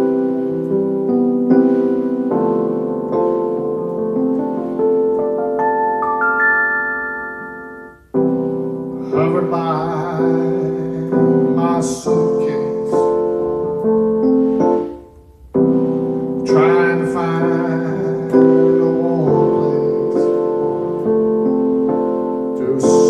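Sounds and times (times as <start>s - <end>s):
keyboard playing held chords: 0.0s - 23.0s.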